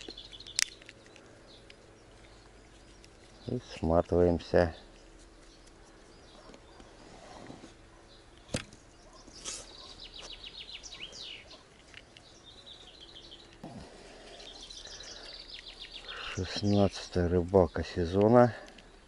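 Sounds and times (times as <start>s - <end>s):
songbird trilling: 0.0s - 7.3s, 8.0s - 18.3s
faint outdoor background noise: 0.0s - 19.0s.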